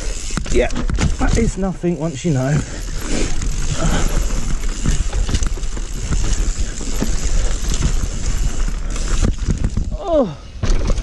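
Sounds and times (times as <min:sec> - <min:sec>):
bike frame and chain rattling: 0:00.0 - 0:10.0.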